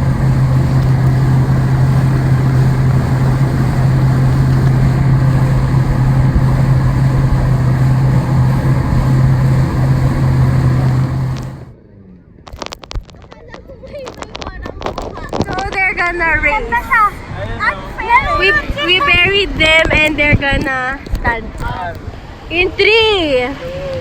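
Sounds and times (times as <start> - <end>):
heavy rushing noise: 0.0 - 11.7, 14.1 - 22.5
engine droning: 0.0 - 13.2, 14.1 - 22.8.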